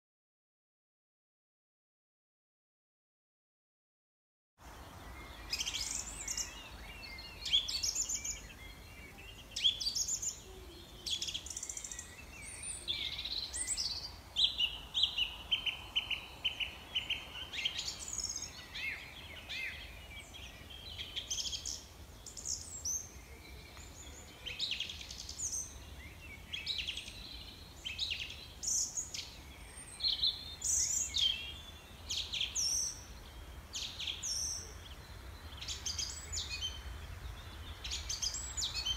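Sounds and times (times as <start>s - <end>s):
birds chirping and singing: 4.7s - 38.9s.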